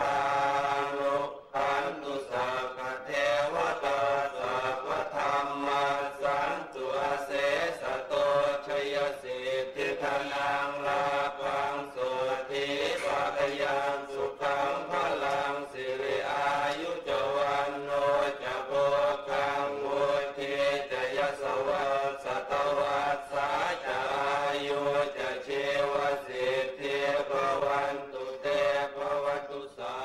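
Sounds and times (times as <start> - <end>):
monks chanting in unison: 0.0 - 30.0.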